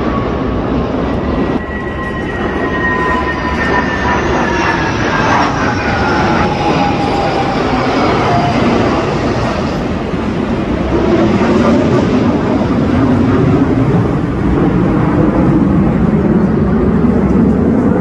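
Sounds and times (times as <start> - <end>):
jet aircraft roaring overhead: 0.0 - 18.0.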